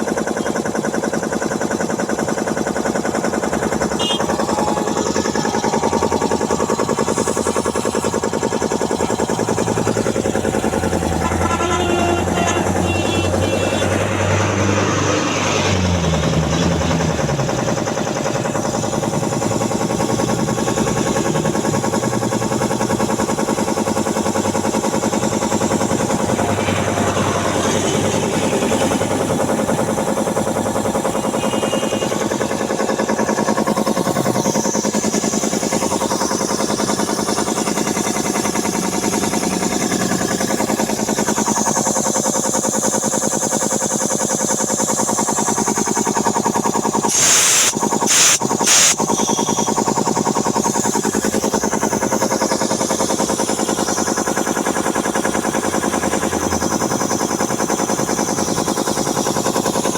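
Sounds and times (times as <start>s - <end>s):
piston air compressor running: 0.0s - 59.9s.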